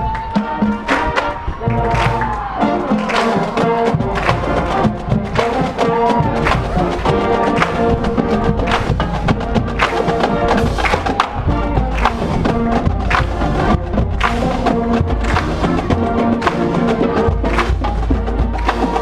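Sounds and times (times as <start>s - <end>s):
brass chords: 0.0s - 19.0s
wood-block-like percussion: 0.0s - 19.0s
marching drum hits: 1.7s - 19.0s.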